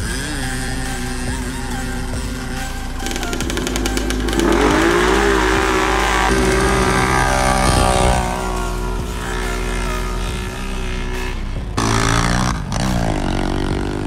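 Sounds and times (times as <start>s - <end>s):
atv engines revving high: 0.0s - 14.0s.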